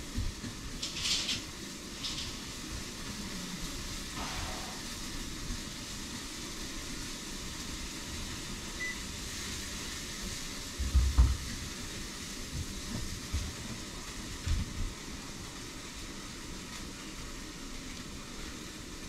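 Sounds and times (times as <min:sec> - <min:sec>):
indoor background hum: 0:00.0 - 0:19.0.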